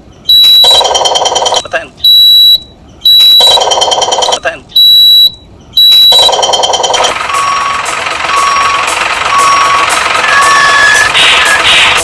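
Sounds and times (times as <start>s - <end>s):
loud electronic beeps: 0.2s - 12.0s
truck reversing alarm: 0.3s - 12.0s.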